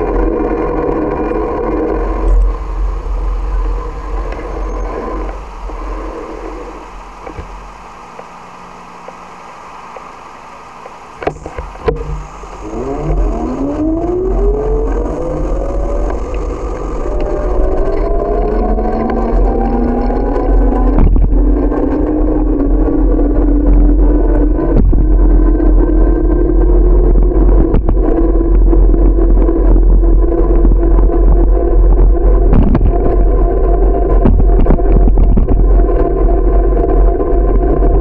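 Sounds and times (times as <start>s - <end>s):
bus engine whine rising: 0.0s - 38.0s
deep engine rumble: 0.0s - 38.0s.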